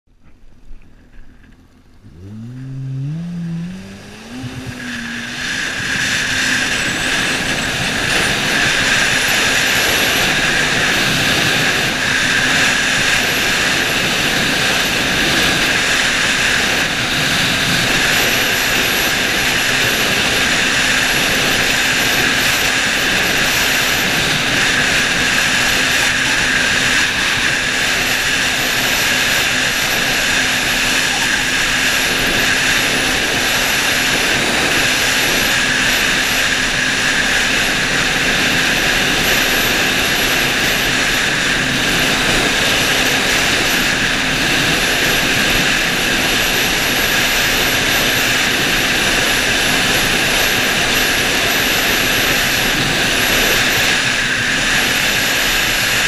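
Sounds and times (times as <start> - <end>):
wind: 0.0 - 56.0
jet ski engine whining: 0.1 - 56.0.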